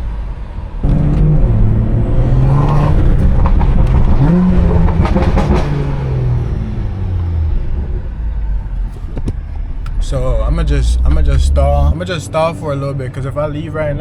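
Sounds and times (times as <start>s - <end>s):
car engine revving: 0.0s - 14.0s
exhaust crackles and pops: 0.6s - 12.0s.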